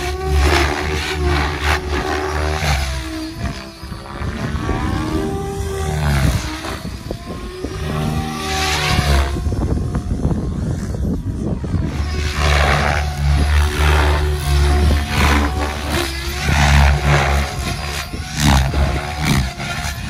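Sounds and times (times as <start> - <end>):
helicopter rotor buzzing: 0.0 - 20.0
rushing blade noise: 0.0 - 20.0.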